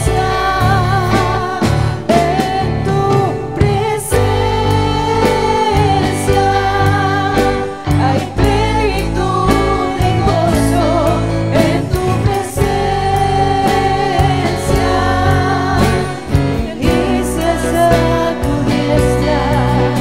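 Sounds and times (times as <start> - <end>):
acoustic guitar: 0.0 - 20.0
keyboard: 0.0 - 20.0
women singing into microphones: 0.0 - 20.0.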